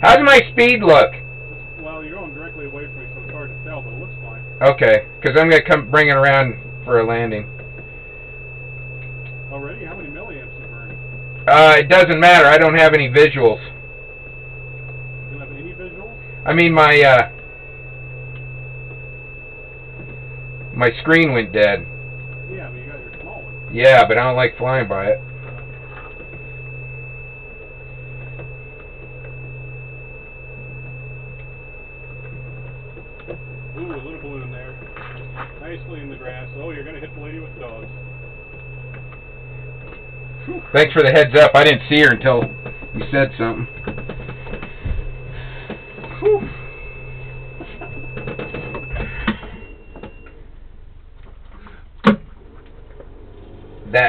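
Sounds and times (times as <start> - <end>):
high-pitched alarm whine: 0.0 - 54.0
steady low hum: 0.0 - 54.0.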